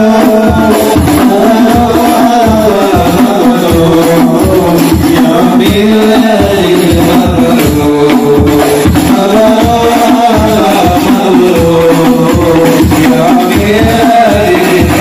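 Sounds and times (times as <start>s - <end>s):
hand-struck frame drums: 0.0s - 15.0s
men singing together: 0.0s - 15.0s.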